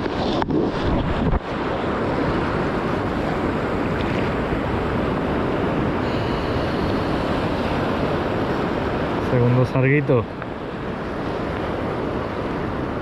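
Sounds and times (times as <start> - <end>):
sea surf: 0.0 - 13.0
wind buffeting microphone: 0.0 - 13.0.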